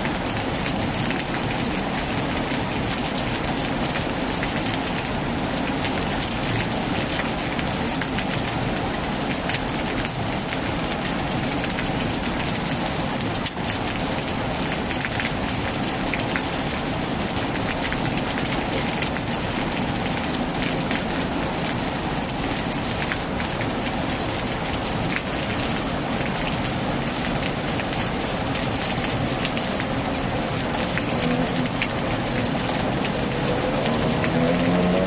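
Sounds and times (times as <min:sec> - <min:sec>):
heavy rain on a tin roof: 0:00.0 - 0:35.0
raindrops ticking on metal: 0:00.1 - 0:35.0.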